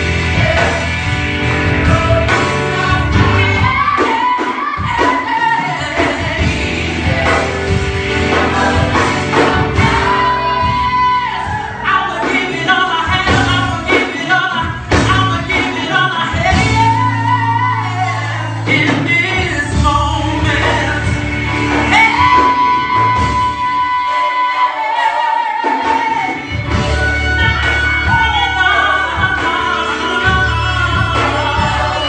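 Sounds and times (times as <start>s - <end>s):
choir singing gospel song: 0.0s - 32.0s.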